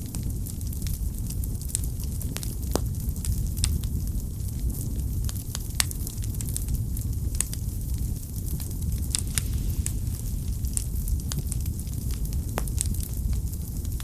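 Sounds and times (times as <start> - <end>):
firewood crackling and popping: 0.0 - 14.0
low rumble of flames: 0.0 - 14.0.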